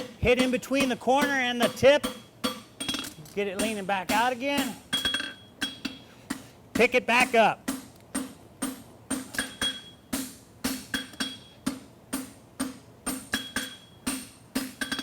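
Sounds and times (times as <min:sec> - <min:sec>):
hammer striking shoe on anvil: 0:00.0 - 0:07.0, 0:07.6 - 0:15.0.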